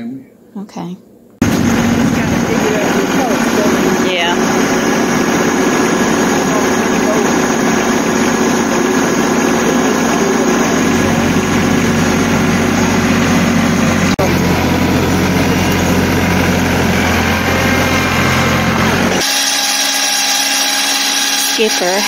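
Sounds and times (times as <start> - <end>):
tractor diesel engine running: 1.4 - 19.4
cordless drill motor whining: 1.7 - 22.0.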